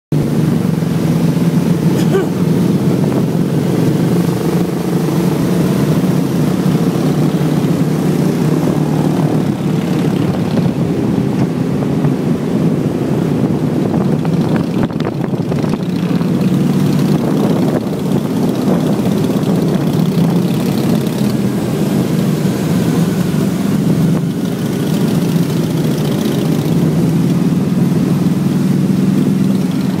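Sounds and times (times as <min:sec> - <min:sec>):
motorcycle engines droning: 0:00.1 - 0:30.0.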